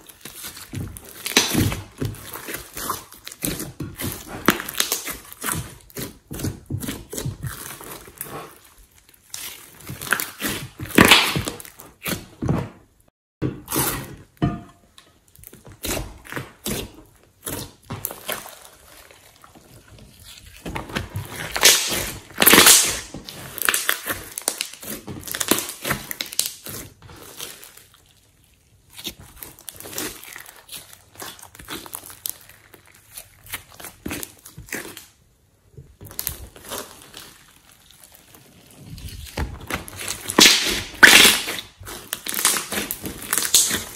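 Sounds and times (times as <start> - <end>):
slime squelching and popping: 0.0 - 12.7, 13.5 - 43.9.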